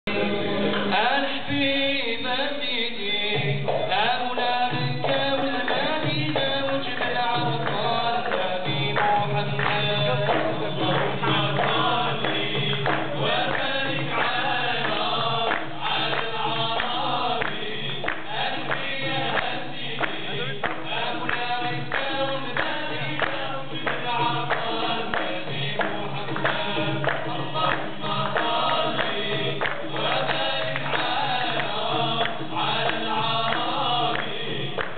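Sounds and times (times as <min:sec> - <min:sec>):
men singing together: 0:00.1 - 0:34.9
frame drums beating: 0:03.4 - 0:34.9.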